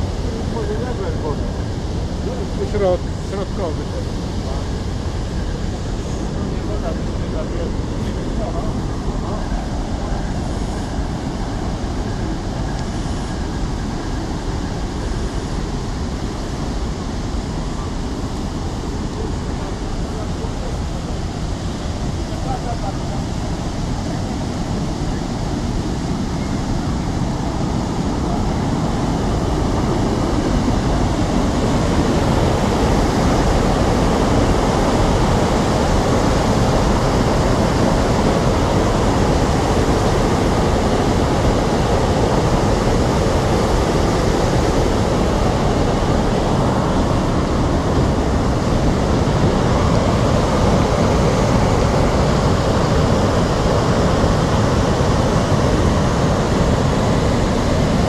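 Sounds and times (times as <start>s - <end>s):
water rushing over a spillway: 0.0s - 58.0s.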